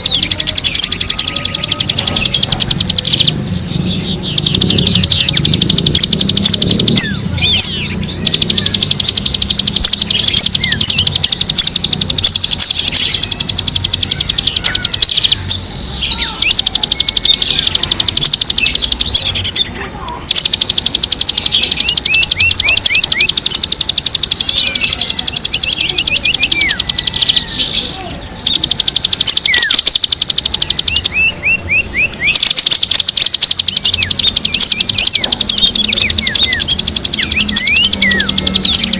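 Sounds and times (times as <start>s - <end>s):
bird high continuous trill: 0.0s - 38.9s
downward-sweeping bird chirps: 0.0s - 38.9s.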